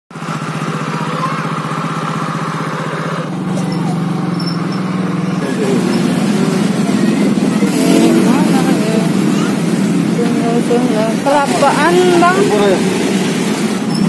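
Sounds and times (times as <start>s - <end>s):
motorbikes in traffic: 0.1s - 14.0s
scooter engine running: 0.1s - 14.0s.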